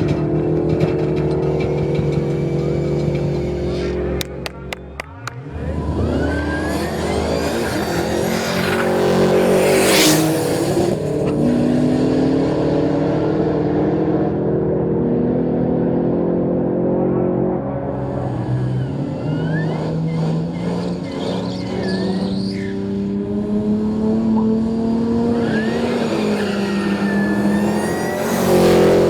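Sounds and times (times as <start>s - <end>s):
car engine accelerating hard: 0.0s - 29.0s
car passing loudly: 3.4s - 29.0s.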